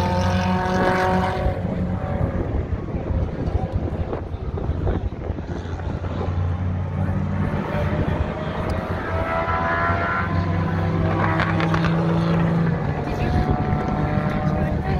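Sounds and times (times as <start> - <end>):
engines running at low speed: 0.0 - 14.9.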